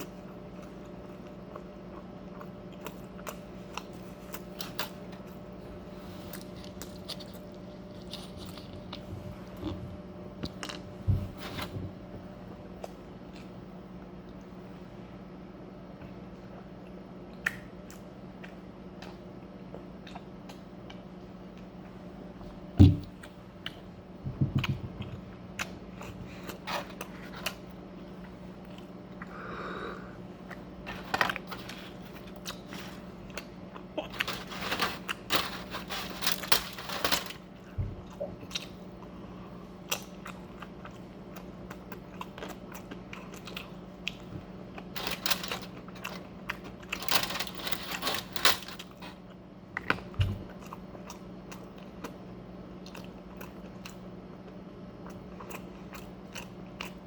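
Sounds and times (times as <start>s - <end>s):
chewing and crunching food: 0.0s - 11.7s, 12.6s - 14.6s, 15.9s - 57.0s
faint steady hum: 0.0s - 57.0s.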